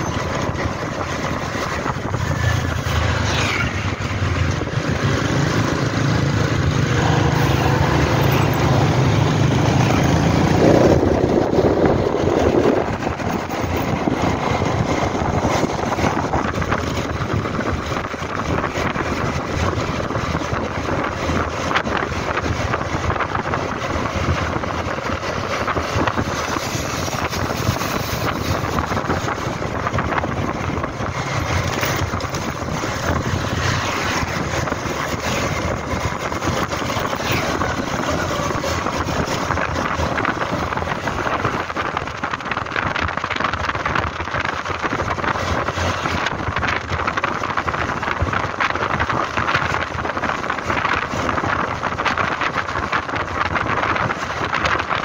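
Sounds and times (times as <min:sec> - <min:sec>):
road noise: 0:00.0 - 0:55.0
scooter engine: 0:00.0 - 0:55.0
wind on microphone: 0:00.0 - 0:55.0.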